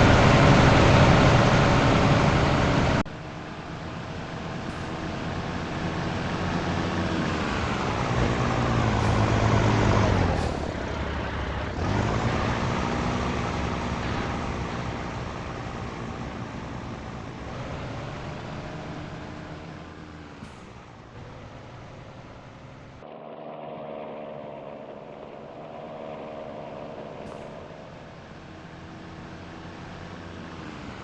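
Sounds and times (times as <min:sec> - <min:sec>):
diesel truck engine accelerating: 0:00.0 - 0:31.0.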